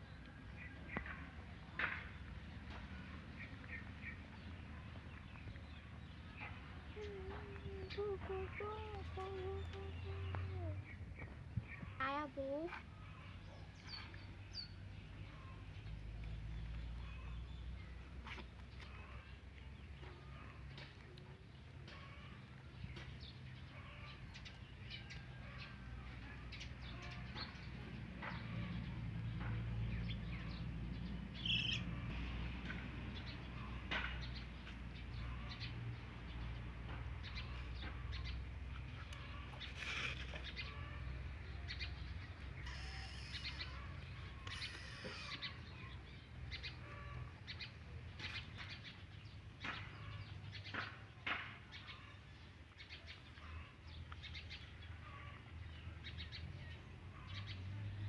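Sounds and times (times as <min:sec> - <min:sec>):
birds chirping: 0:00.0 - 0:25.6, 0:26.4 - 0:32.4, 0:33.1 - 0:58.0.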